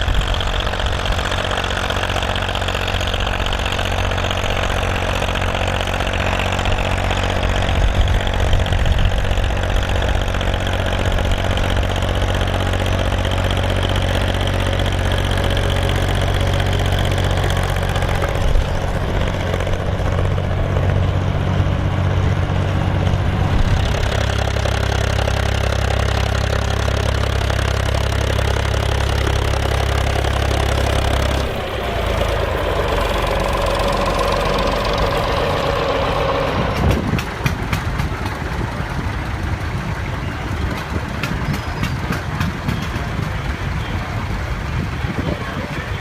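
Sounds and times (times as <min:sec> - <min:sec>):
clattering engine ticks: 0:00.0 - 0:46.0
engine whine: 0:00.0 - 0:46.0
tractor diesel engine: 0:00.0 - 0:46.0.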